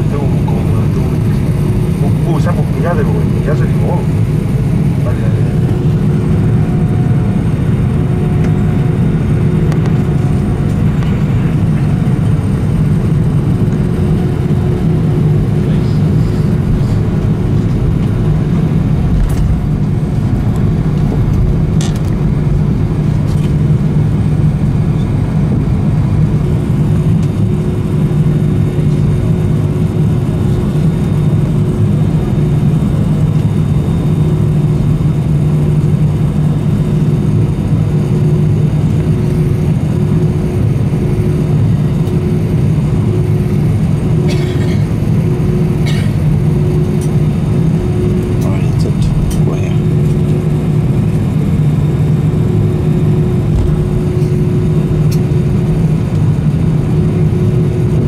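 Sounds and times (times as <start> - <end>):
aircraft engine and cabin rumble: 0.0 - 58.0.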